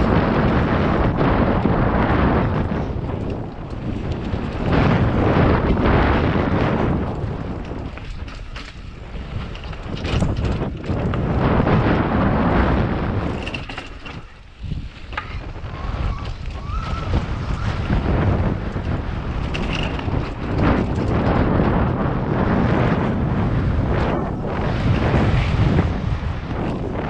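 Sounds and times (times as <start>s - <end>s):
bike knocks and rattles: 0.0s - 27.0s
tyres rolling on dirt: 0.0s - 27.0s
wind rushing over microphone: 0.0s - 27.0s.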